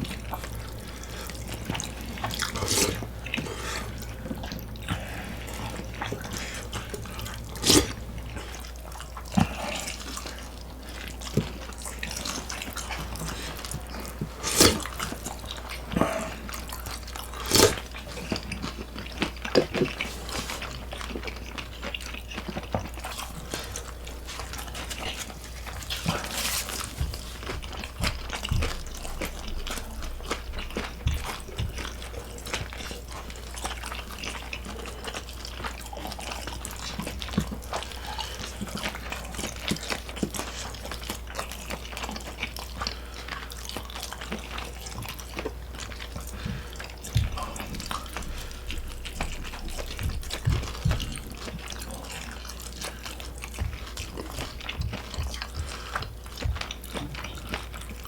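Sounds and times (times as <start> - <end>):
wet chewing and smacking: 0.0 - 58.0.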